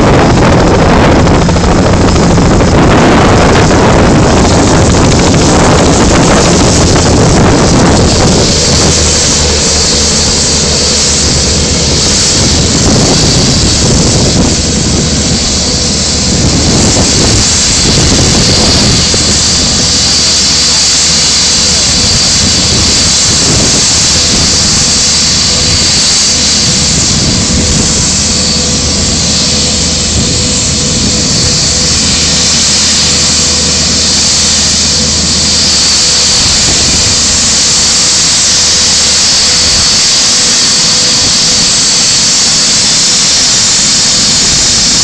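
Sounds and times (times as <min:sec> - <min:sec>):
helicopter rotor noise: 0:00.0 - 0:45.0
helicopter turbine whine: 0:00.0 - 0:45.0
low rumble: 0:00.0 - 0:45.0.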